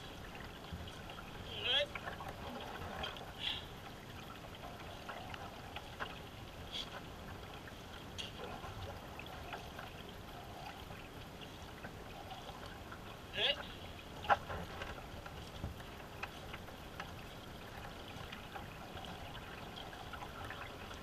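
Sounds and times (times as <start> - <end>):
paddle splashing water: 0.0 - 21.0.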